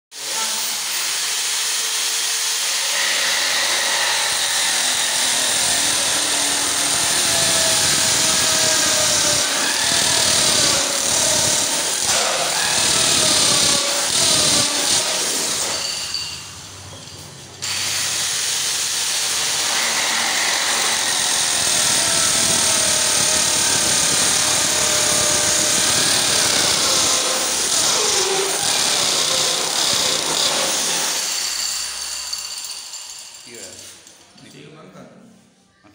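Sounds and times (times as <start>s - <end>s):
electric drill cutting pipe: 0.2s - 16.3s, 17.6s - 33.1s.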